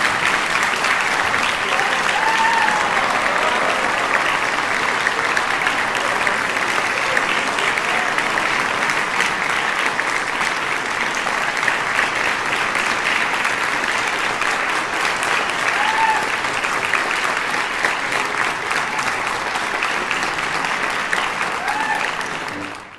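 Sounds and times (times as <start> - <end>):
audience applauding: 0.0 - 22.9.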